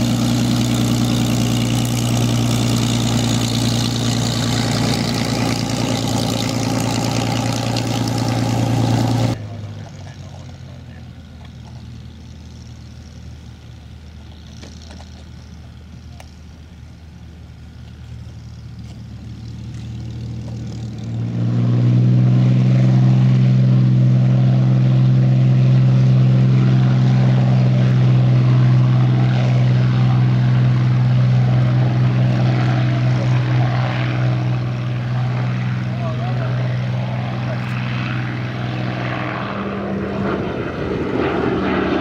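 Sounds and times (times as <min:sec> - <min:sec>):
aircraft engine running: 0:00.0 - 0:42.0
loud propeller drone: 0:00.0 - 0:42.0.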